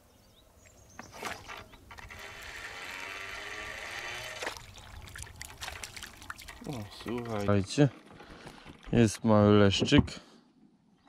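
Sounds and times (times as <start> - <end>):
water splashing and trickling: 0.6 - 9.5.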